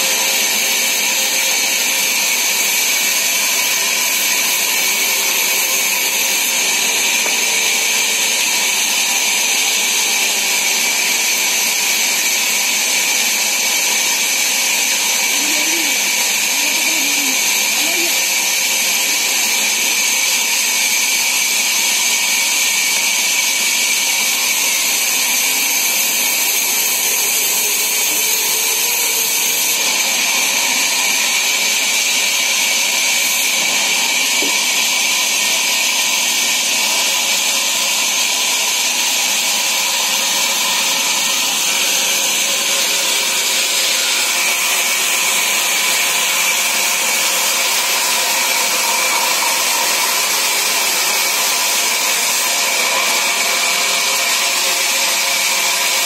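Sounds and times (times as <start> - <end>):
band saw whining: 0.0 - 56.0.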